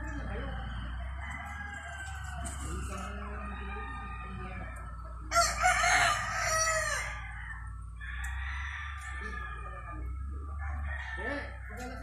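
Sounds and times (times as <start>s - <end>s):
chickens calling: 0.0s - 12.0s
rooster crowing: 0.4s - 10.0s, 10.6s - 12.0s.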